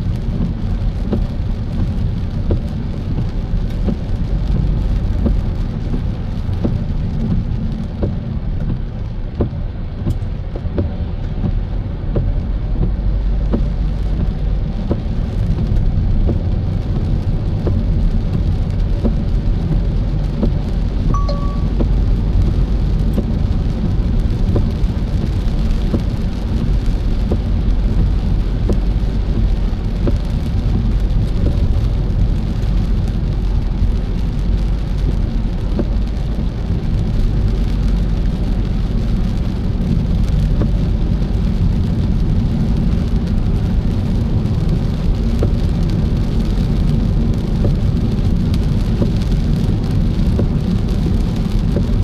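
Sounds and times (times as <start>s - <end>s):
car road and engine rumble: 0.0s - 52.0s
raindrops ticking on car: 0.0s - 52.0s.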